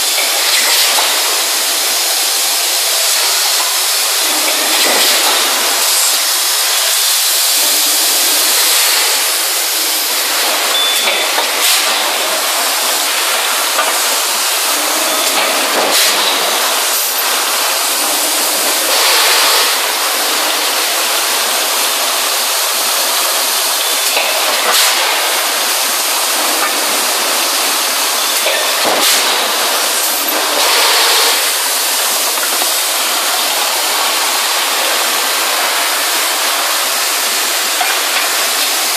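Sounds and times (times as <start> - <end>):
forging press machinery hissing: 0.0 - 38.9.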